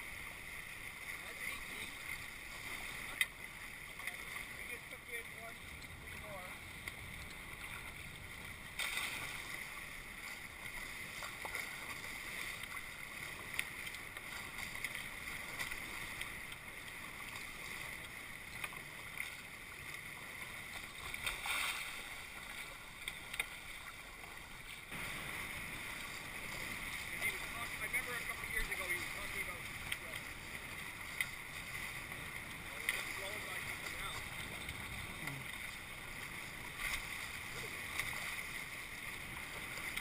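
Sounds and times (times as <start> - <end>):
water rushing along boat hulls: 0.0 - 40.0.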